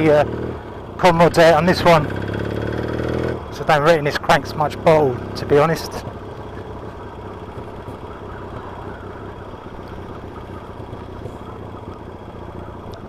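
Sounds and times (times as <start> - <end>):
engine tapping: 0.0 - 13.0
motorcycle engine running: 0.0 - 13.0.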